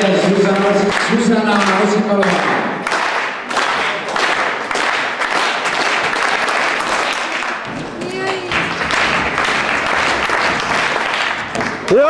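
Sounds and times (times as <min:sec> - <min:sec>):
spectators clapping: 0:00.0 - 0:12.0.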